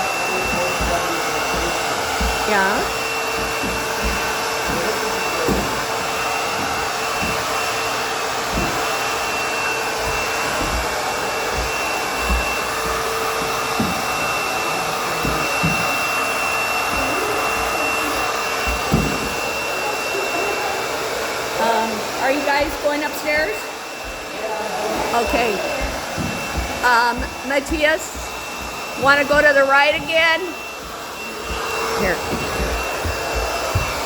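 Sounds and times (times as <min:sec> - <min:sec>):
vacuum cleaner running: 0:00.0 - 0:34.0
low thumps on stairs: 0:00.2 - 0:19.8, 0:21.9 - 0:34.0.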